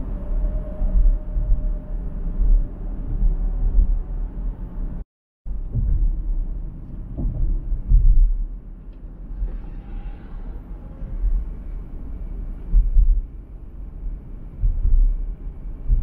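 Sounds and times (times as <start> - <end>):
car road and wind rumble: 0.0 - 16.0.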